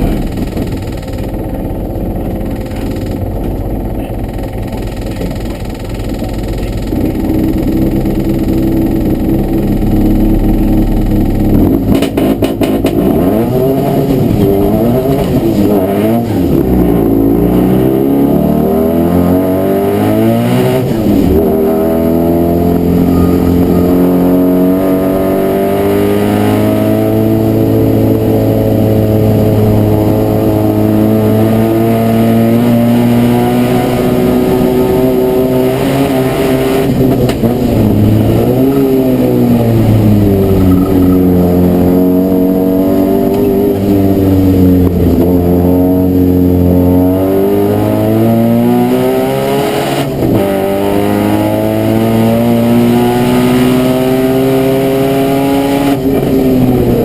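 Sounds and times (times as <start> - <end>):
car engine revving and accelerating: 3.8 - 57.0.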